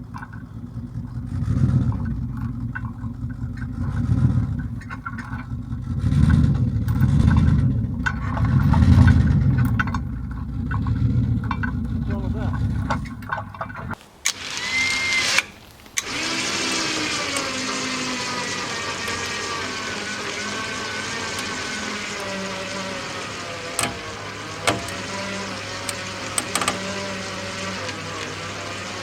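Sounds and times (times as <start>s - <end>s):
sharp knocks and clicks: 0.0s - 14.0s, 16.0s - 28.0s
engine running steadily: 0.0s - 29.0s.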